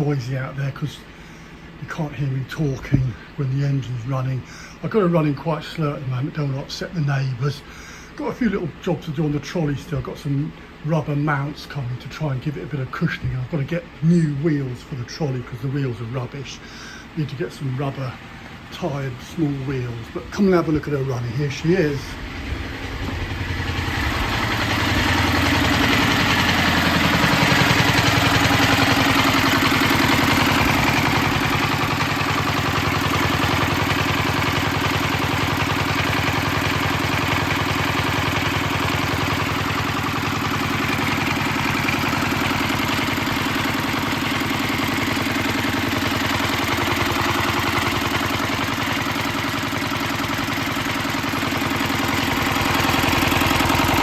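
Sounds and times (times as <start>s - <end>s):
stationary engine running: 7.5s - 54.0s.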